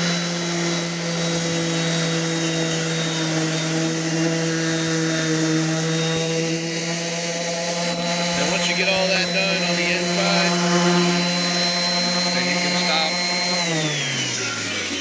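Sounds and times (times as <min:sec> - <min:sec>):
sandpaper scrubbing on wood: 0:00.0 - 0:14.0
sander motor hum: 0:00.0 - 0:15.0.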